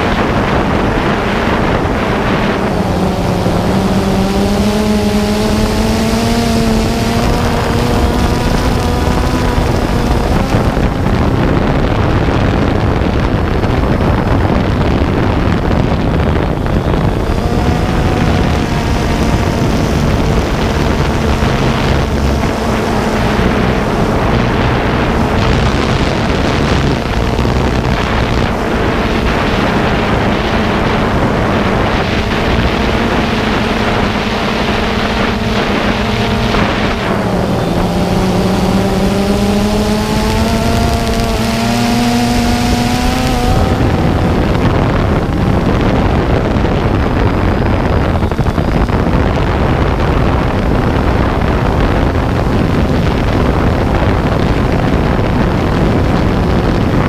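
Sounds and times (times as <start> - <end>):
drone motor and propeller: 0.0 - 57.0
wind rush on microphone: 0.0 - 57.0.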